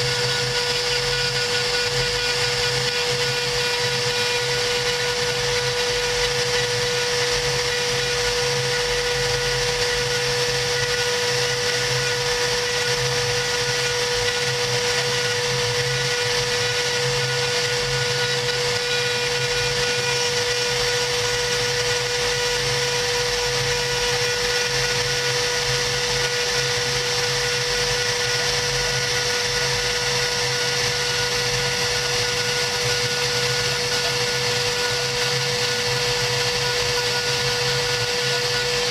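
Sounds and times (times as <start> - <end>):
cnc router spindle whine: 0.0 - 38.9.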